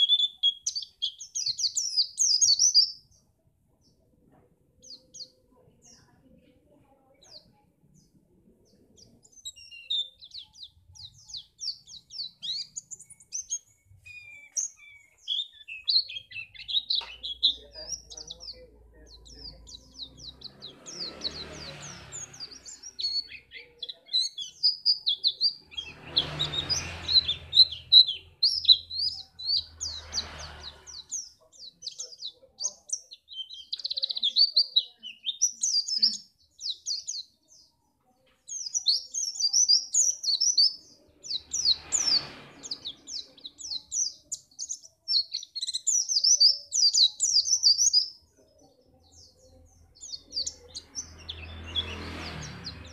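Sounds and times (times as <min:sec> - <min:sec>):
bird chattering song: 0:00.0 - 0:52.9.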